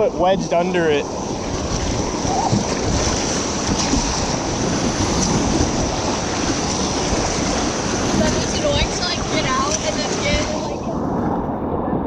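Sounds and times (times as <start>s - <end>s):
river water rushing: 0.0s - 11.1s
wind noise on microphone: 0.0s - 12.0s.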